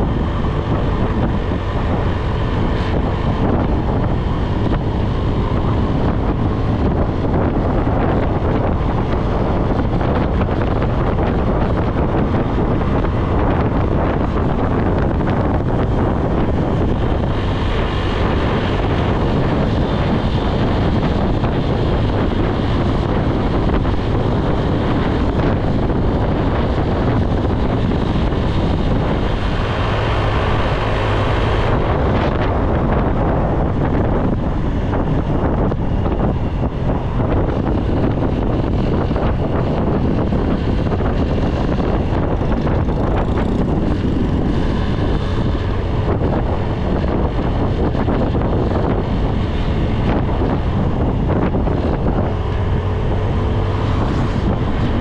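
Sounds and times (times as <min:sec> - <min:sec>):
motorbike engine running: 0:00.0 - 0:55.0
wind buffeting microphone: 0:00.0 - 0:55.0.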